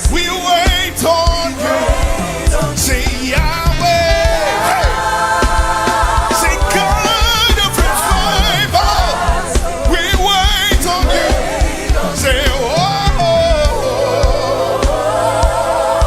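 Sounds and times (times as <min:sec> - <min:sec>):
band with steady drum beat: 0:00.0 - 0:16.0
person singing with vibrato: 0:00.0 - 0:16.0.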